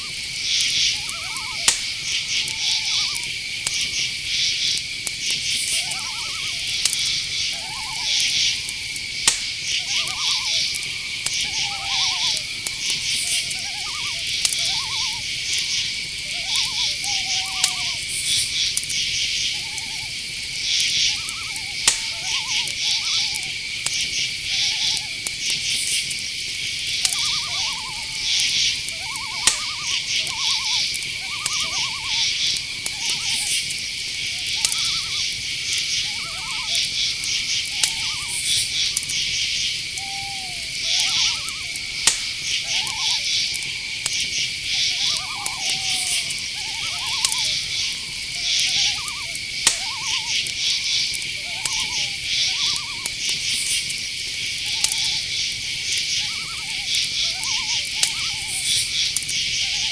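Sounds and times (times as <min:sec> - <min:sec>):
short trilled calls: 0:00.0 - 0:04.8, 0:05.4 - 0:59.9
crickets chirping: 0:00.0 - 0:59.9
high-pitched insect drone: 0:00.0 - 0:59.9
sharp clicks: 0:00.2 - 0:59.5.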